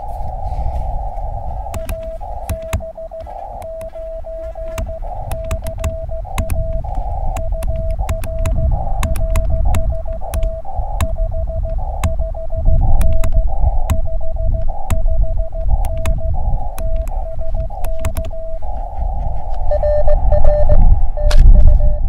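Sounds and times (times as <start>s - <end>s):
receiver hiss: 0.0s - 21.8s
faint lower morse signal: 0.0s - 22.0s
low rumble: 0.0s - 22.0s
morse code tone: 0.0s - 22.0s
sharp clicks: 1.0s - 18.6s.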